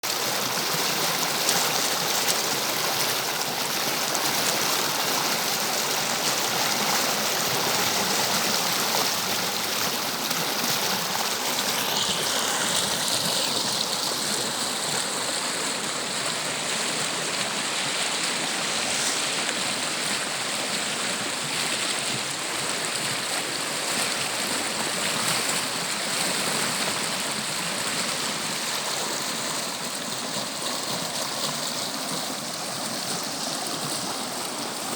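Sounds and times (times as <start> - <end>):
river flowing over rocks: 0.0 - 34.9.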